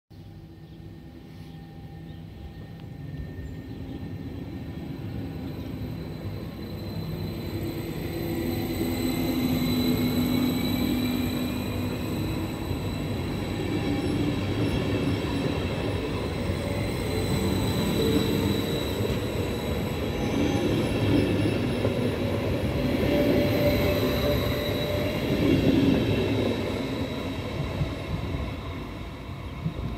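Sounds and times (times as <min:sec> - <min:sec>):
train high whine: 0:00.1 - 0:29.9
train wheels rumbling on rails: 0:01.6 - 0:29.9.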